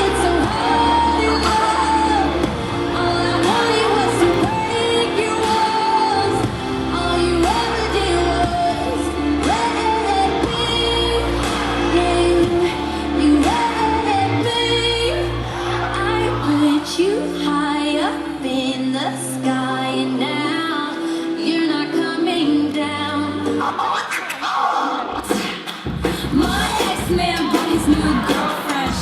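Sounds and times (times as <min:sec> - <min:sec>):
pop song with vocals: 0:00.0 - 0:29.0.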